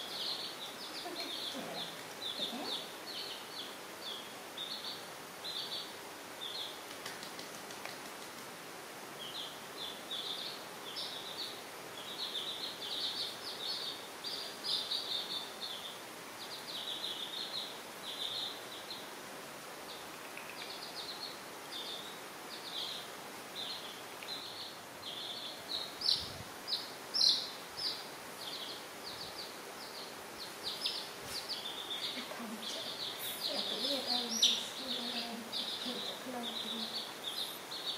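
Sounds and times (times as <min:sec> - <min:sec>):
baby chicks peeping: 0:00.0 - 0:08.5, 0:09.2 - 0:19.2, 0:19.8 - 0:37.9.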